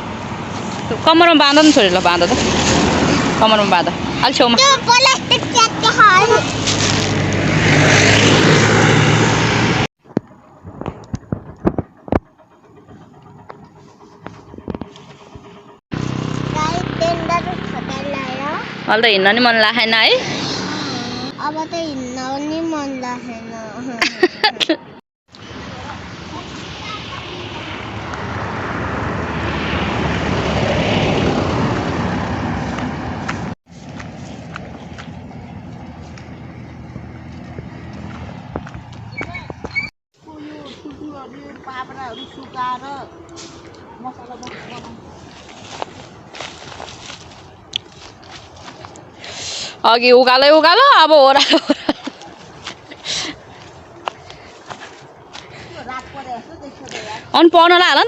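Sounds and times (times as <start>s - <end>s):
vehicle passing close by: 0.0s - 9.9s, 11.4s - 23.8s, 25.4s - 58.0s.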